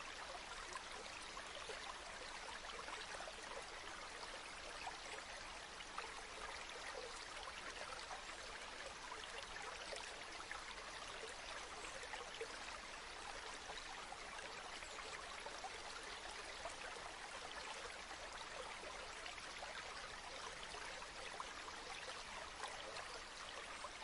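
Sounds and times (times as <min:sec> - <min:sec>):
river water flowing over stones: 0:00.0 - 0:24.0.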